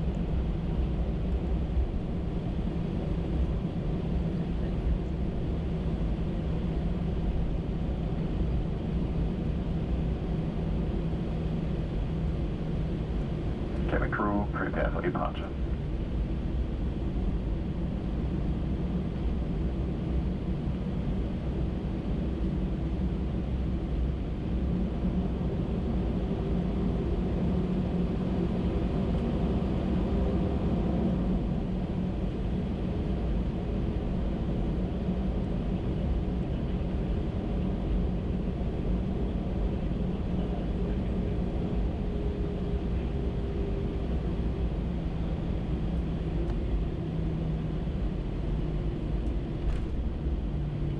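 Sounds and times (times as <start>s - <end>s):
airplane cabin engine drone: 0.0s - 50.9s.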